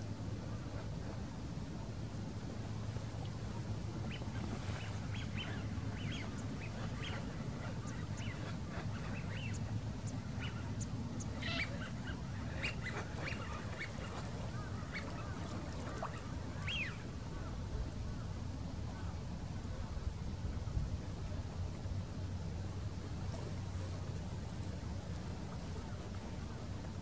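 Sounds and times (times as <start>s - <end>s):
steady low rumble: 0.0s - 27.0s
waterbirds calling: 0.0s - 27.0s.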